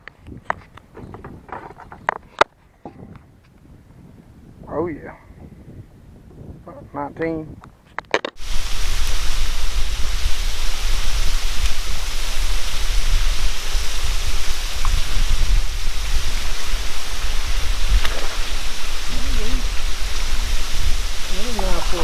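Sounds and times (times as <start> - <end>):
wind hitting microphone: 0.0 - 22.0.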